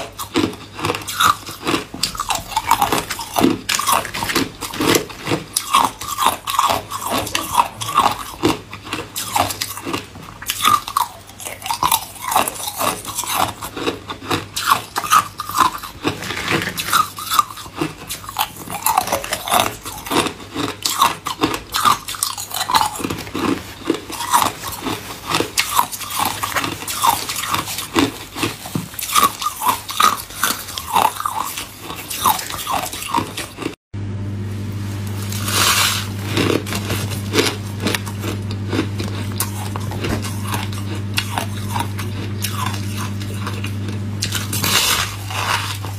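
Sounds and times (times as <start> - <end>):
ice cubes crunching: 0.0 - 33.8, 35.2 - 45.9.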